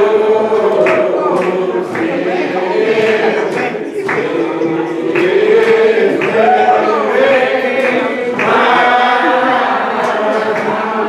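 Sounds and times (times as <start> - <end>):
voices singing a hymn a cappella: 0.0 - 11.0.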